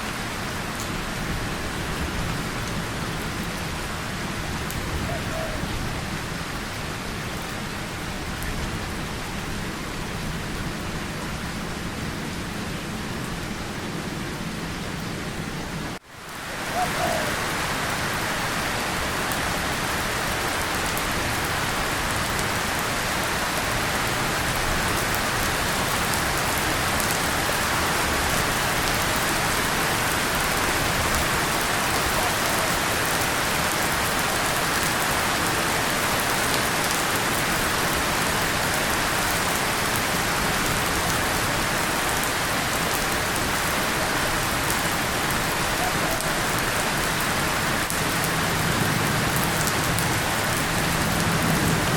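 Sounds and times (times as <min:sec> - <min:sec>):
rain on tin and leaves: 0:00.0 - 0:51.9.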